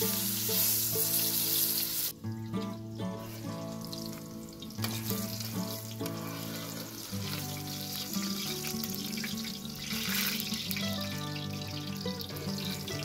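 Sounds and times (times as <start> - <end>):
background music with held notes: 0.0 - 13.0
eggplant slices sizzling in oil: 0.0 - 13.0.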